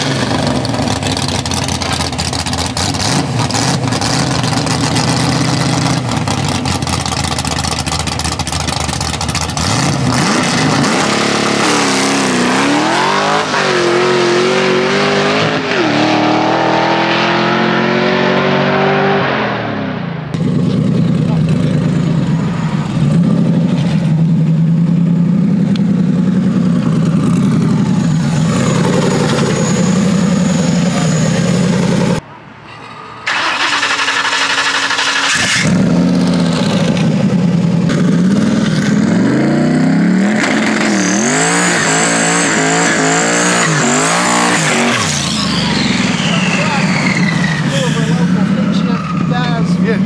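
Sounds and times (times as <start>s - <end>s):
drag car engine revving: 0.0s - 32.2s, 33.3s - 50.0s.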